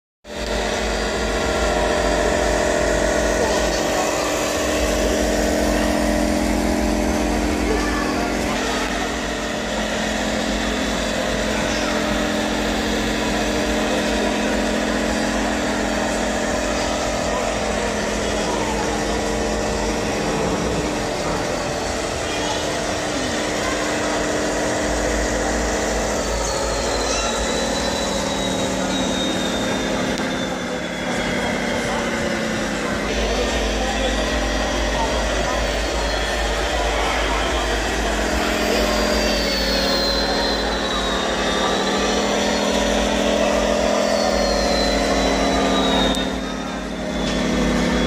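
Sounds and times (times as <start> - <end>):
engine-like drone: 0.2 - 48.0
faint high whine: 0.3 - 48.0
murmur of voices: 0.3 - 48.0.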